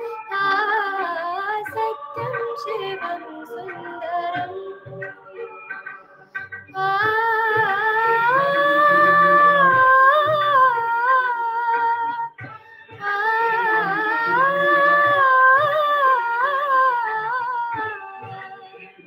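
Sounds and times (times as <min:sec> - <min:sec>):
woman singing solo: 0:00.0 - 0:05.6, 0:06.8 - 0:12.4, 0:13.0 - 0:18.8.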